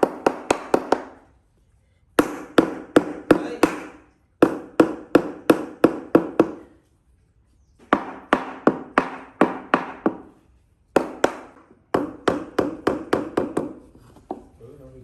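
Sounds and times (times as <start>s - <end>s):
hand tool striking wood: 0.0s - 1.2s, 2.2s - 6.7s, 7.8s - 14.4s.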